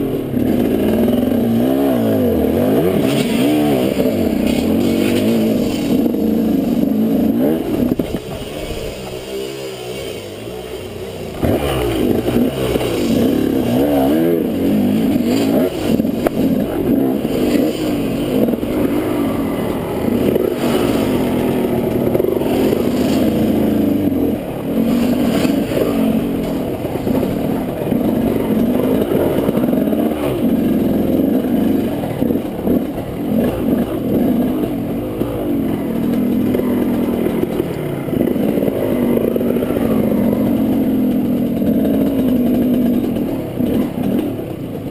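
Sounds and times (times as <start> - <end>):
dirt bike engine revving: 0.0 - 44.9
knocks and rattles of bike: 0.0 - 44.9.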